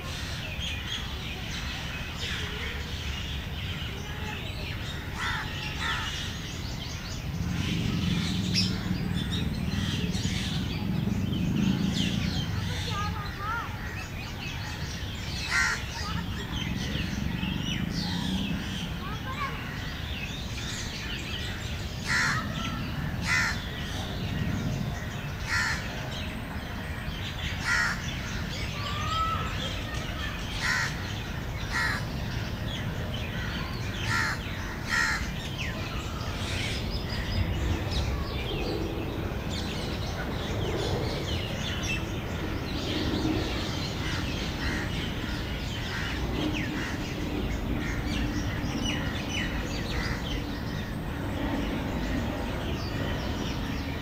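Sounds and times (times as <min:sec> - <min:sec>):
birds calling: 0:00.0 - 0:54.0
steady low rumble: 0:06.2 - 0:28.8, 0:29.7 - 0:54.0.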